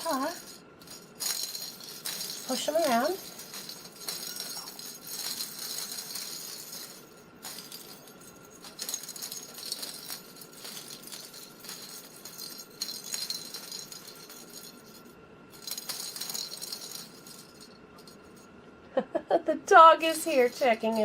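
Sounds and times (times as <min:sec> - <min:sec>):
toy balls rattling in a track: 0:00.0 - 0:18.5, 0:20.0 - 0:21.0.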